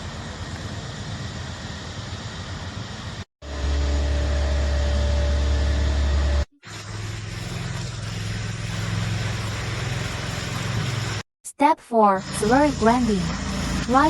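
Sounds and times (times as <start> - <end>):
machine engine humming: 0.0 - 11.2, 12.2 - 14.0.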